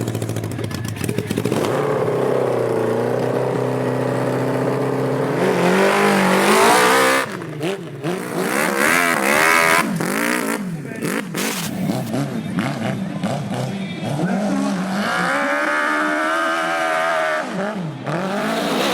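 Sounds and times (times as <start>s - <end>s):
dirt bike engines revving: 0.0s - 18.9s.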